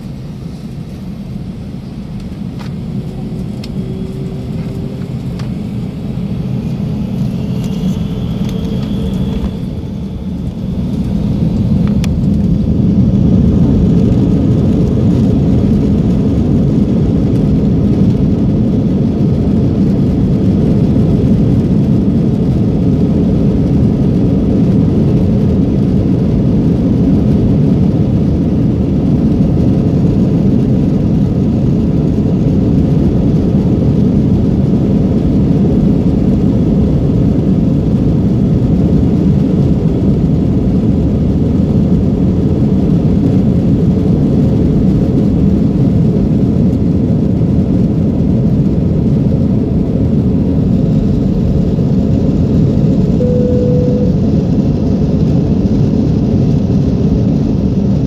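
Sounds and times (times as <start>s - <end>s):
jet engine low rumble: 0.0s - 58.0s.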